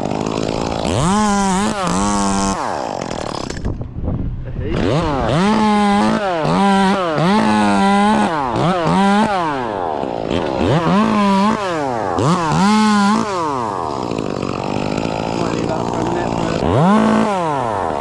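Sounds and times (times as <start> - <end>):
chainsaw revving: 0.0 - 3.9, 4.6 - 18.0.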